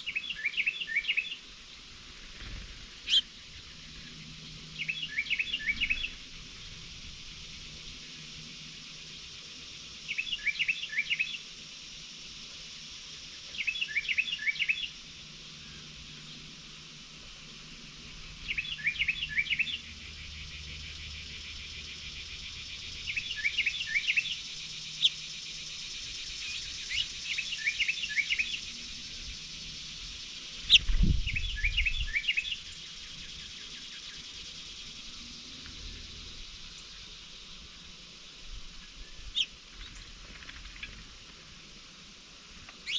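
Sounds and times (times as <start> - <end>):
steady background hiss: 0.0 - 42.9.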